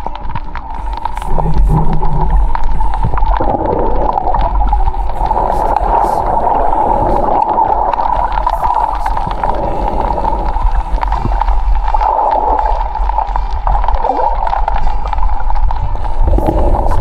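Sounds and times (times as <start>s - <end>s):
small crackling clicks: 0.0s - 17.0s
underwater rushing hiss: 0.8s - 15.1s.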